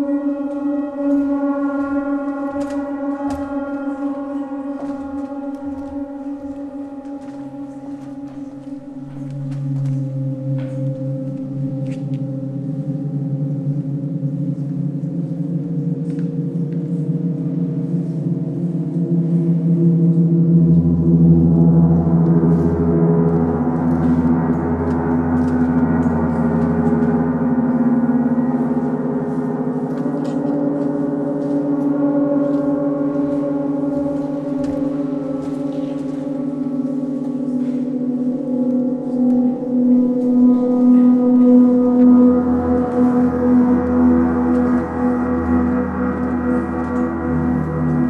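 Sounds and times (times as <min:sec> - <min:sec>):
deep low hum: 0:00.0 - 0:48.0
gongs ringing: 0:00.0 - 0:48.0.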